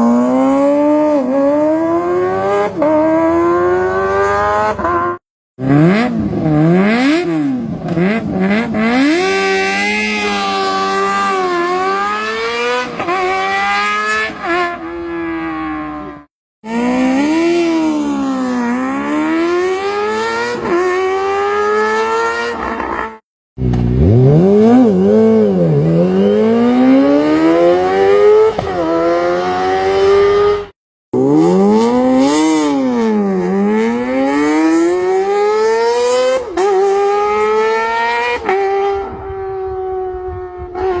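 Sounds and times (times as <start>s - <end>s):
motorcycle engine revving high: 0.0s - 41.0s.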